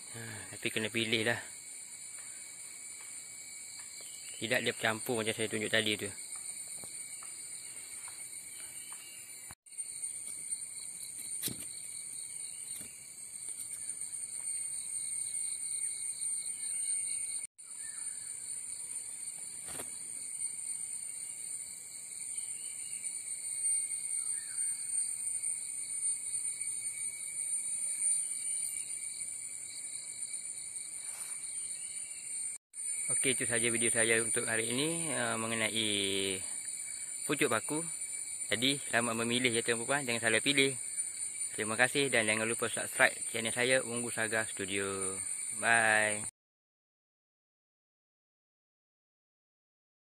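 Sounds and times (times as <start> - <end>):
insects shrill drone: 0.0 - 46.3
pulsing insect trill: 0.0 - 46.3.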